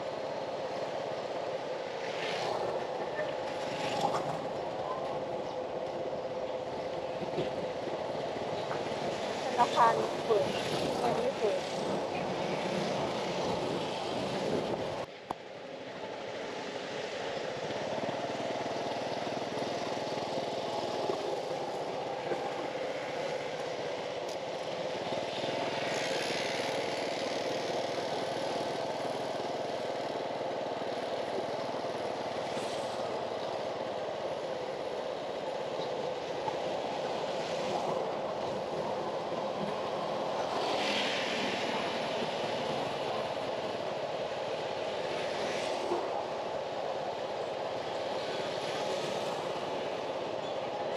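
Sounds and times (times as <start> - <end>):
wind and road noise: 0.0 - 50.9.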